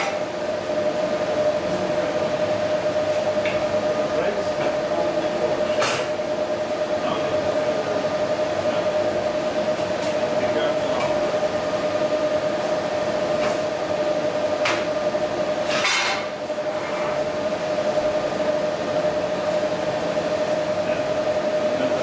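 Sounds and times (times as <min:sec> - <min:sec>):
machine humming drone: 0:00.0 - 0:22.0.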